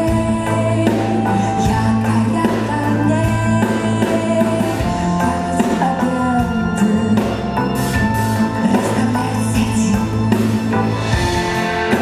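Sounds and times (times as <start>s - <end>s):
drum kit with cymbals: 0.0s - 12.0s
lead singer: 0.0s - 12.0s
rock band with strings playing: 0.0s - 12.0s.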